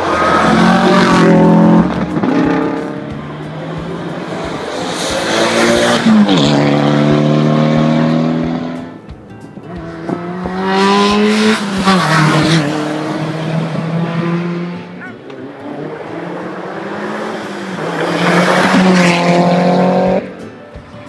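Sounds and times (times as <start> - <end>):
rally cars passing at speed: 0.0 - 9.0, 9.6 - 20.5.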